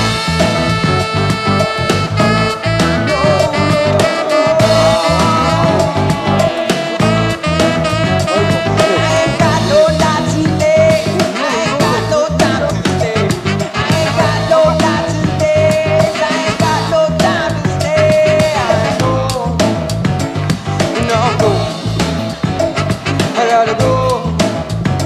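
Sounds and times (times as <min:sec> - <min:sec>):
upbeat song with singing: 0:00.0 - 0:25.0.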